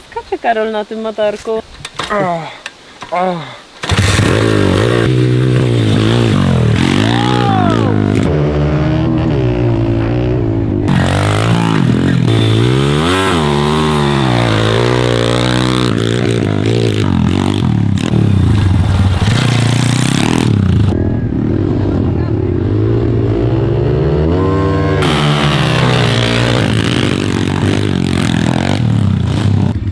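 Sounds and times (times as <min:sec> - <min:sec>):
dirt bike engine revving: 0:03.8 - 0:29.9.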